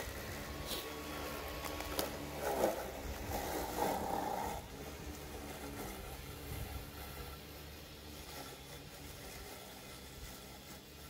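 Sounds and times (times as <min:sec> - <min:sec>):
electric mower motor hum: 0:00.0 - 0:11.0.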